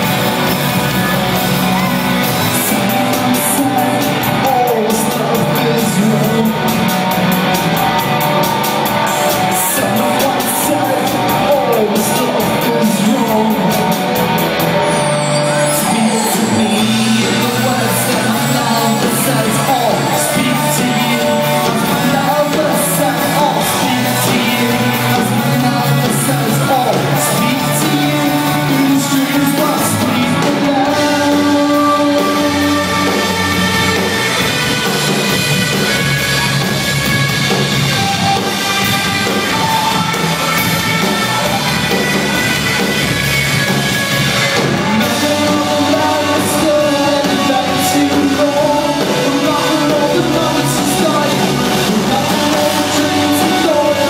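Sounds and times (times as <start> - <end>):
person singing: 0.0 - 36.6, 37.5 - 54.0
bass guitar: 0.0 - 54.0
drums: 0.0 - 54.0
electric guitars: 0.0 - 54.0.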